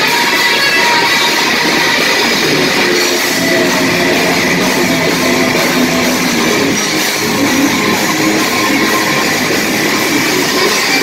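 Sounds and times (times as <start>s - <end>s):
bass guitar: 0.0s - 11.0s
drums: 0.0s - 11.0s
electric guitars: 0.0s - 11.0s.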